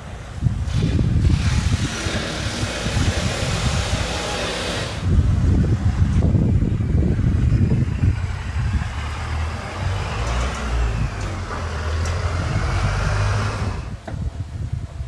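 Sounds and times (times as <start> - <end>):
motorcycle engine rumbling: 0.0 - 15.0
rushing noise: 0.0 - 15.0.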